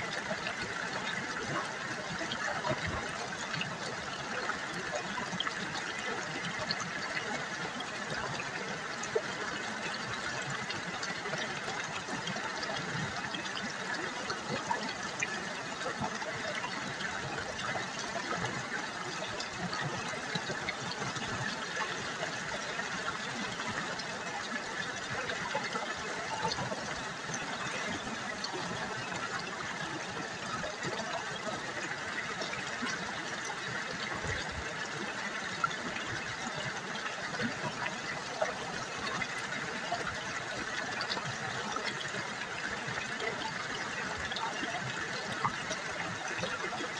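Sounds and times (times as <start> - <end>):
river water babbling: 0.0 - 46.9.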